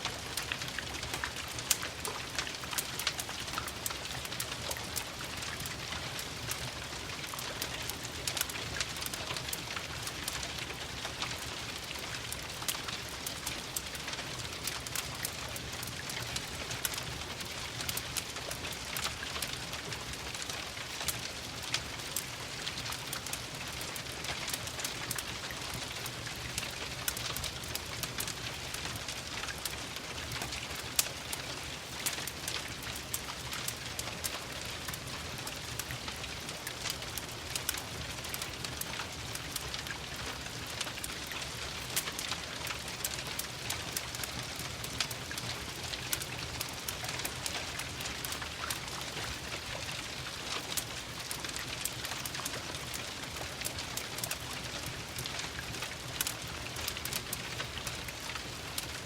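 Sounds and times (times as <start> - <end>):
rain hiss with ticks: 0.0 - 59.0
wood fire crackling: 0.0 - 59.0.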